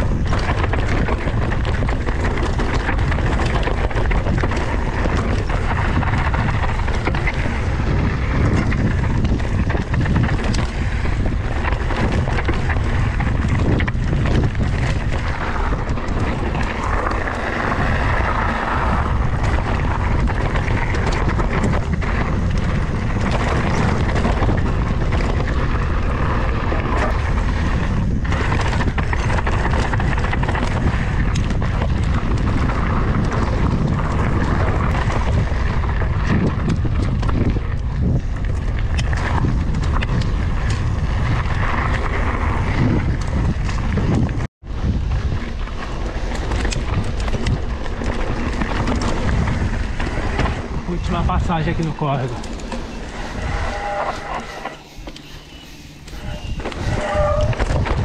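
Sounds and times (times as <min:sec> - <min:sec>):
bike clicks and rattles: 0:00.0 - 0:58.0
tyres rolling over gravel: 0:00.0 - 0:58.0
wind buffeting microphone: 0:00.0 - 0:58.0.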